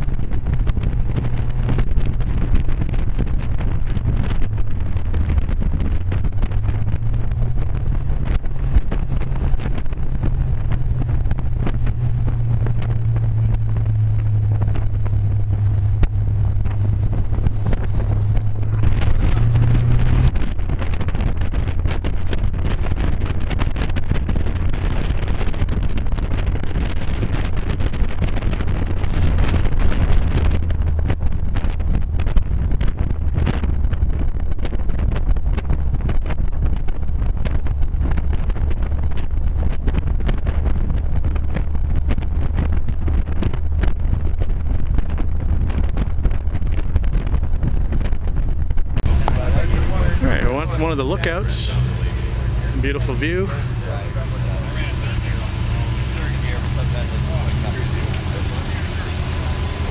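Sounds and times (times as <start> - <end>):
sports car engine running: 0.0 - 59.9
wind and road noise: 0.0 - 59.9.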